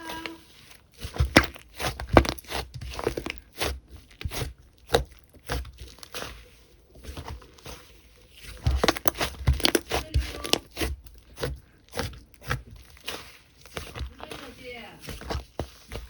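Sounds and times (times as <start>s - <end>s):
slime squished by hand: 0.0s - 16.0s.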